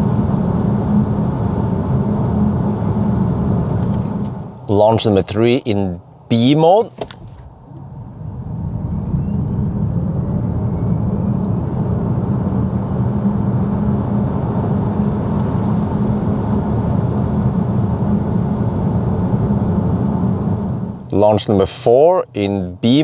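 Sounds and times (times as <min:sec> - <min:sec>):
road and tyre noise: 0:00.0 - 0:23.0.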